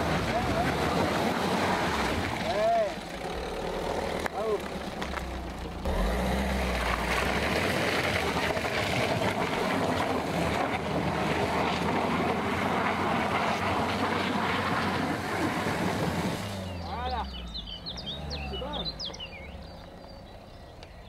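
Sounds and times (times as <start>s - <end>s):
tyres churning through mud: 0.0s - 20.6s.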